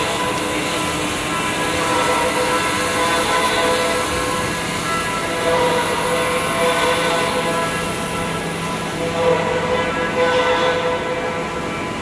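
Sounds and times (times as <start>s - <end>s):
constant machine noise: 0.0s - 12.0s
machine whine: 0.0s - 12.0s.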